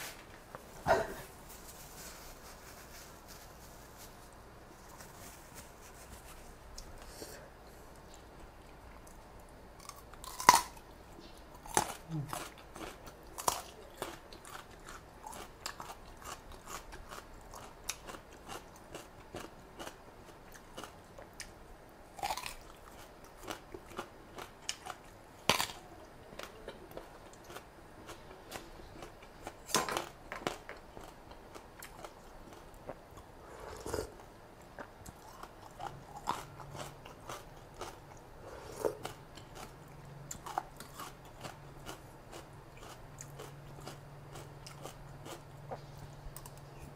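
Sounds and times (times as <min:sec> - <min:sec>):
low steady hum: 0:00.0 - 0:46.9
person chewing crisp vegetables: 0:06.4 - 0:46.9.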